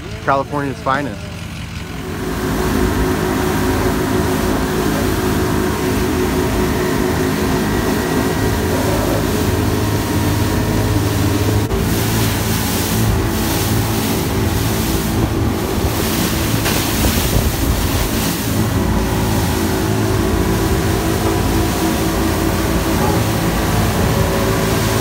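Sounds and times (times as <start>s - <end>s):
boat engine running: 0.0s - 25.0s
rushing water from boat wake: 0.0s - 25.0s
wind buffeting microphone: 2.2s - 25.0s.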